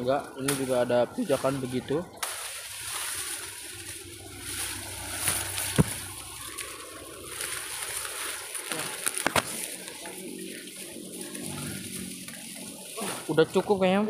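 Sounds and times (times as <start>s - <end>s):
footsteps through dry grass: 0.7s - 13.6s.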